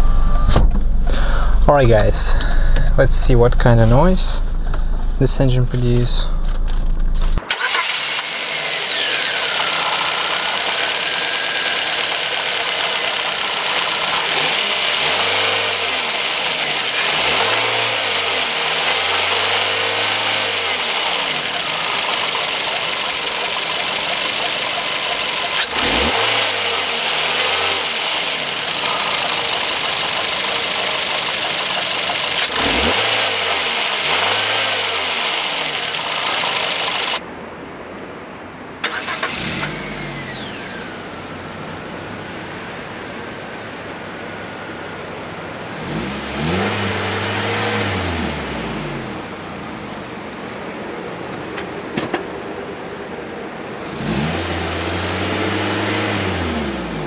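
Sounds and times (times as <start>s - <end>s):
car engine revving: 0.0s - 37.2s, 38.8s - 50.3s, 53.7s - 57.0s.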